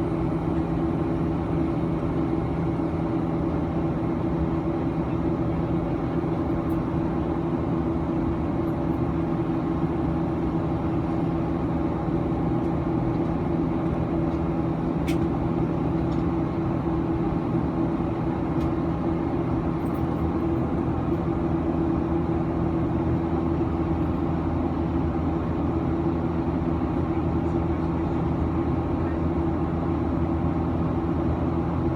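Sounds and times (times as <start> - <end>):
airliner cabin drone: 0.0 - 31.9.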